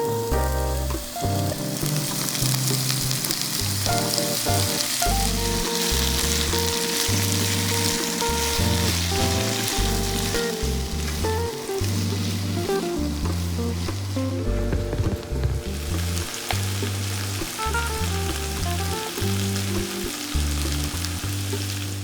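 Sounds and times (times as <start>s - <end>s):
background music: 0.0s - 22.0s
food sizzling in oil: 0.0s - 22.0s.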